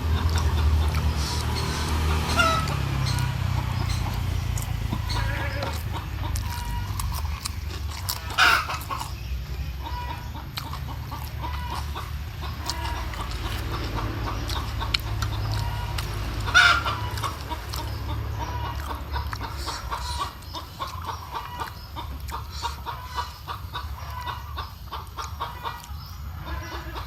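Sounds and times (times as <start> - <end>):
chicken squawking calls: 0.0 - 9.2, 9.8 - 27.0
crunching of eating crackers: 0.0 - 24.3
chickens clucking: 0.0 - 27.0.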